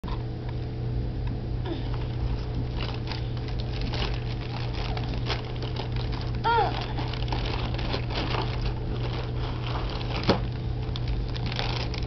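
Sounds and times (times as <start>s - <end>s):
low electrical hum: 0.0s - 12.0s
cardboard box crinkling: 2.0s - 12.0s.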